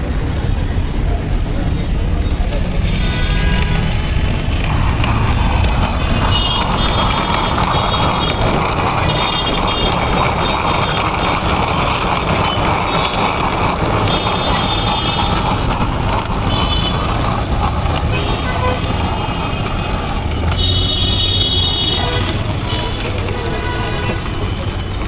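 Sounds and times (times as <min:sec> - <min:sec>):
blender motor whining: 0:03.0 - 0:24.5.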